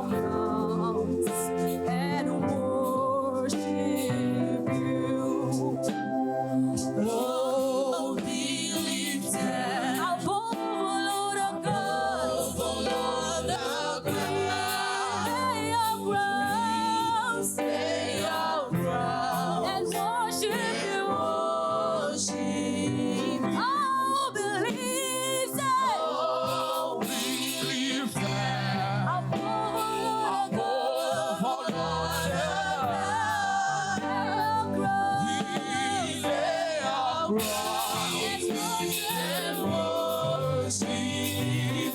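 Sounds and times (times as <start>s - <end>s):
choir singing gospel: 0.0s - 41.9s.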